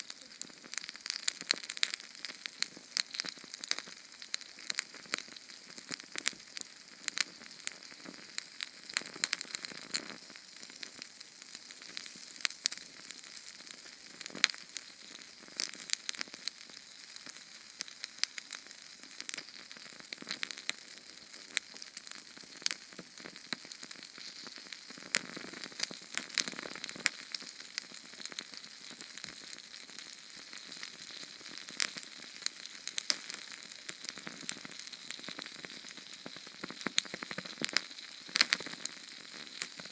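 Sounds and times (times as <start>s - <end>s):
flame hissing and crackling: 0.0s - 39.9s.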